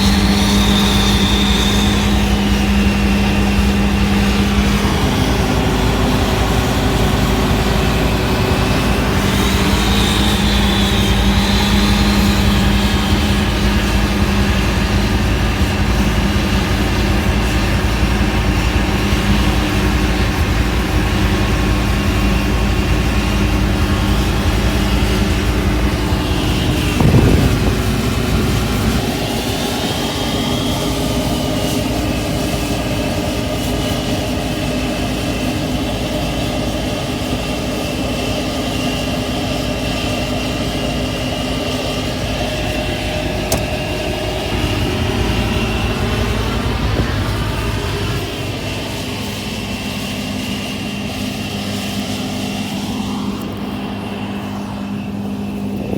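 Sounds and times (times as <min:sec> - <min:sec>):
heavy machinery engine running: 0:00.0 - 0:55.9.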